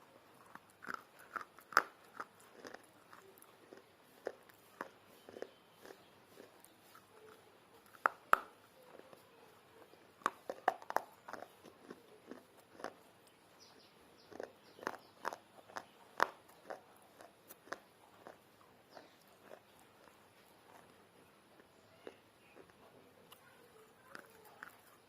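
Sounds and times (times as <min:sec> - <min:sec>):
crunching and chewing clay: 0:00.0 - 0:25.0.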